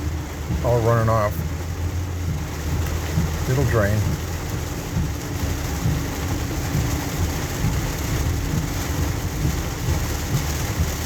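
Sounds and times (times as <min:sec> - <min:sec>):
heavy rain: 0:00.0 - 0:11.0
low road rumble: 0:00.0 - 0:11.0
tyre noise on wet road: 0:00.0 - 0:11.0.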